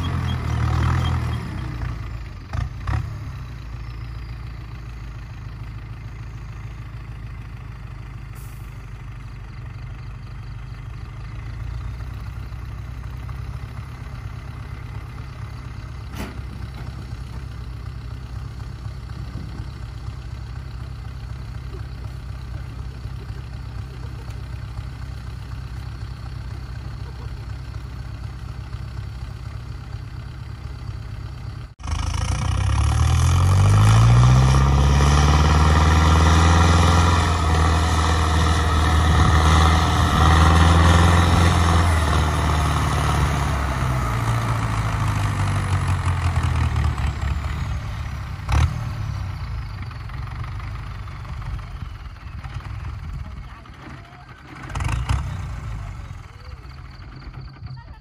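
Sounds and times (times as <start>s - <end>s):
tractor diesel engine: 0.0s - 58.0s.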